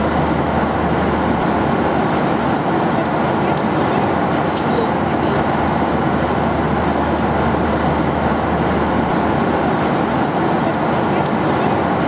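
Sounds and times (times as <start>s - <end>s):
aircraft cabin airflow and engine: 0.0s - 12.0s.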